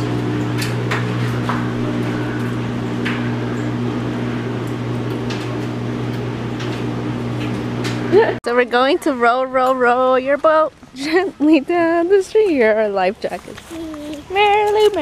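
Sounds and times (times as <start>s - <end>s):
clothes dryer running: 0.0s - 13.1s.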